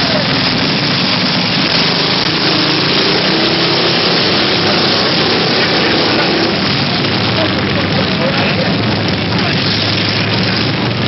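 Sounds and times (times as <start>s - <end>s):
constant rushing noise: 0.0s - 11.0s
faint engine hum: 0.0s - 11.0s
mini bike engines running: 0.0s - 11.0s.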